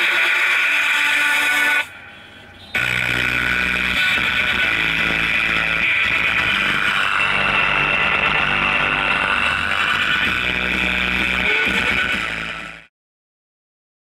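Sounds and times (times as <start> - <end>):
music through a subwoofer: 0.0 - 12.9.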